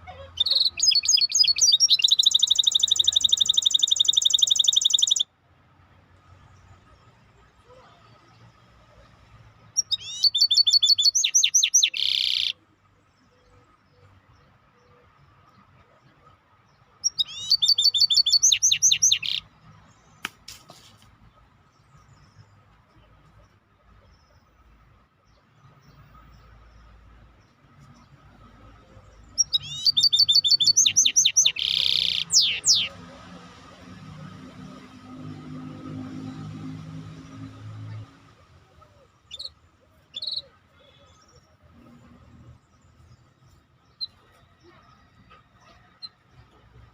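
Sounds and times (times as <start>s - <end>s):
songbird singing: 0.0s - 5.3s, 6.2s - 46.9s.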